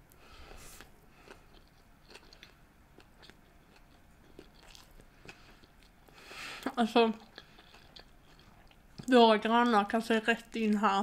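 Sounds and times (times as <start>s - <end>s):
faint chewing: 0.1s - 9.2s.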